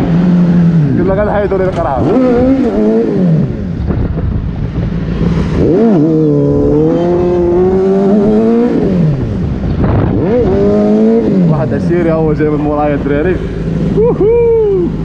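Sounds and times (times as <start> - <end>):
motorcycle engine revving: 0.0 - 15.0
wind rumble on microphone: 0.0 - 15.0.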